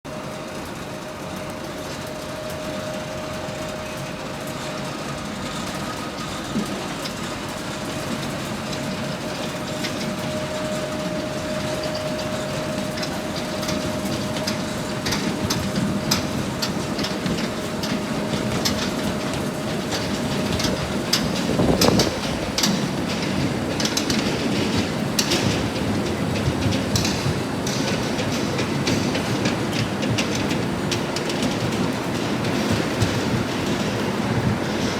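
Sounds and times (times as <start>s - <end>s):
machinery rattling: 0.6s - 34.9s.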